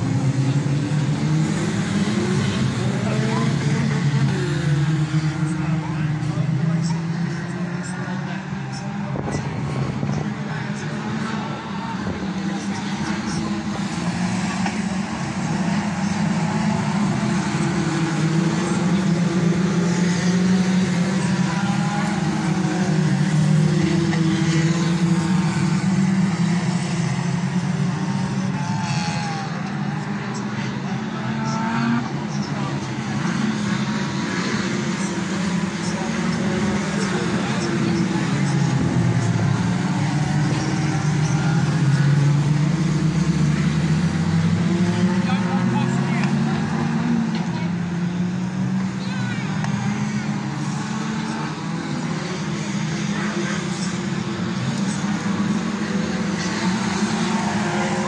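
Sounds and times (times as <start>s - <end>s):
racing car engines droning: 0.0s - 58.0s.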